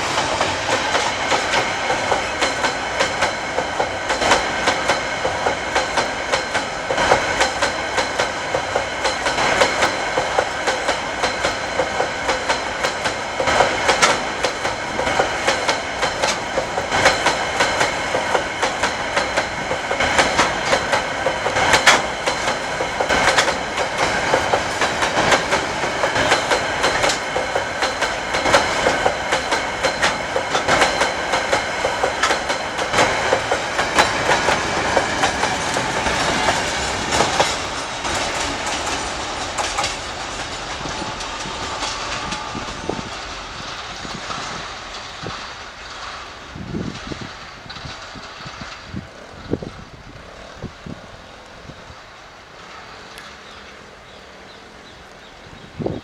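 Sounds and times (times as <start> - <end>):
train rumble: 0.0 - 56.0
wheels clacking over rail joints: 0.0 - 56.0.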